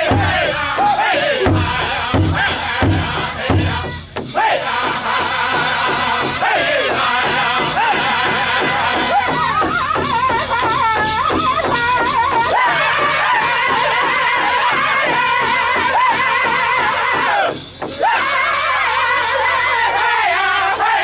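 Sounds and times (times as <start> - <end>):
group singing high wavering lines: 0.0 - 21.0
large drum steady beat: 0.0 - 21.0.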